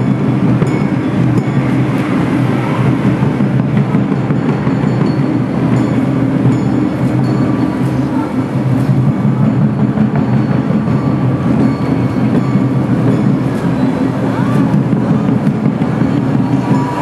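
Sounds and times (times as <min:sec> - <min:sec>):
streetcar motors and wheels rumbling: 0:00.0 - 0:17.0.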